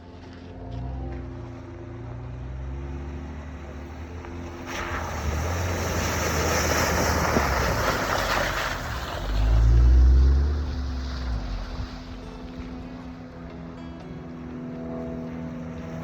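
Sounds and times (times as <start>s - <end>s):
jeep engine rumble: 0.0s - 16.0s.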